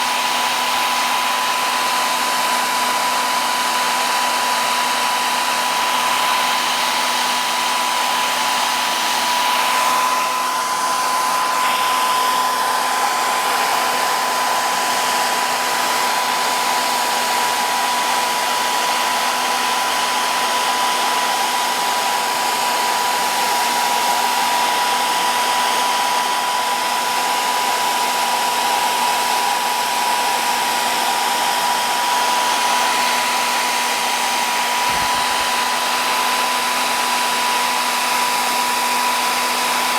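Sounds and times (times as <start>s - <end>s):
electric blower motor whining: 0.0s - 39.9s.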